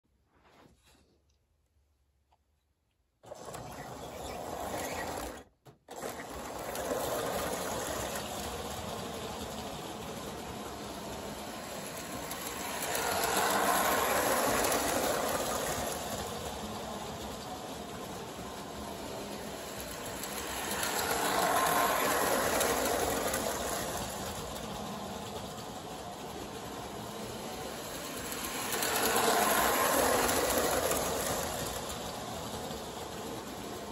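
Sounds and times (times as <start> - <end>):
toy train rattling on track: 3.2 - 33.9.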